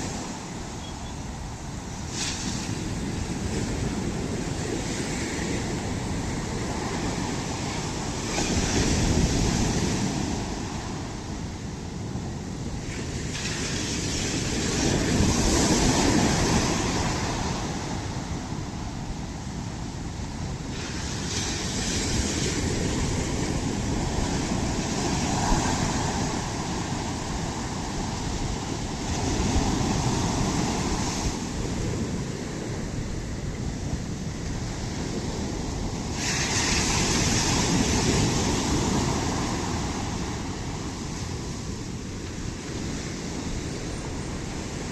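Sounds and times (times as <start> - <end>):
ocean waves breaking on shore: 0.0 - 44.9
wind on microphone: 0.0 - 44.9.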